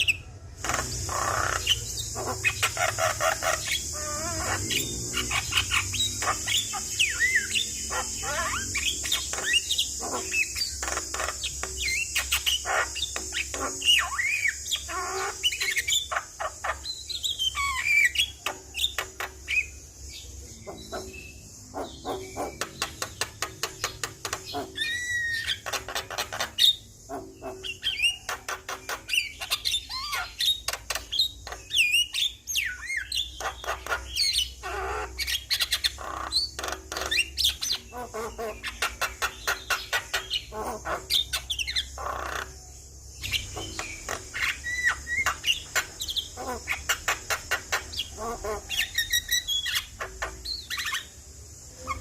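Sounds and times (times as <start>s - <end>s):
bird singing with chattering whistles: 0.0s - 52.0s.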